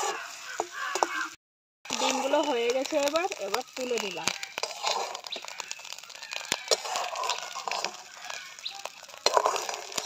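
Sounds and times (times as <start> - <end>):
metal spatula scraping wok: 0.0 - 1.3, 1.9 - 10.0.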